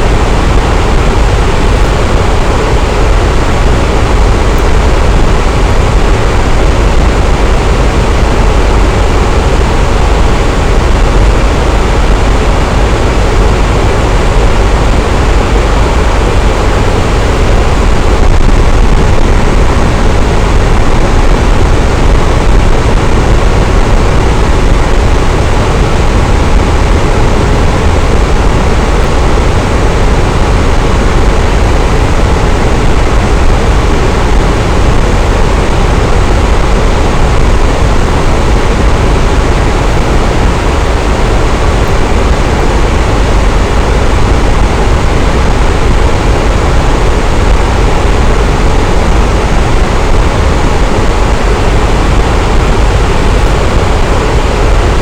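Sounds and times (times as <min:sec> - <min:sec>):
electric fan running: 0:00.0 - 0:55.0.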